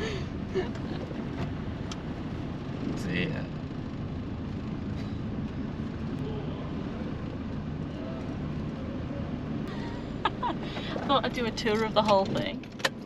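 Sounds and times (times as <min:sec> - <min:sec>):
van engine rumbling: 0:00.0 - 0:13.0.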